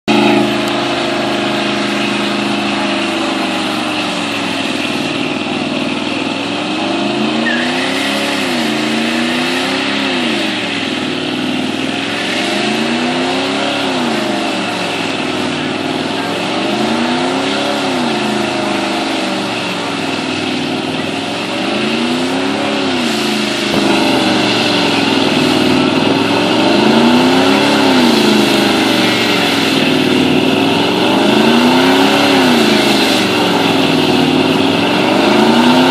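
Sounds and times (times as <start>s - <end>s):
pickup engine revving high: 0.0s - 35.9s
spinning tires squealing: 0.1s - 35.9s.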